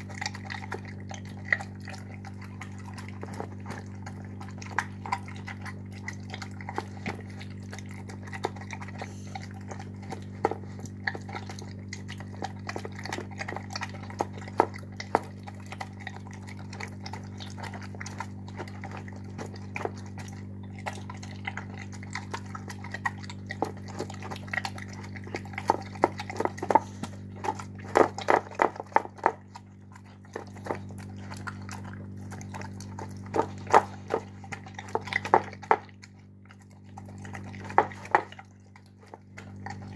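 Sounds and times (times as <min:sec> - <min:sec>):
dog chewing wet food: 0:00.0 - 0:39.9
steady low hum: 0:00.0 - 0:39.9.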